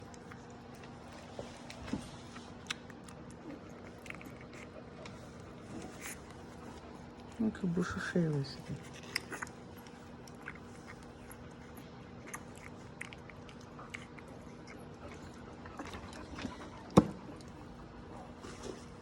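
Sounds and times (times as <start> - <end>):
faint steady hum: 0.0 - 19.0
puppies chewing and gnawing: 0.0 - 19.0.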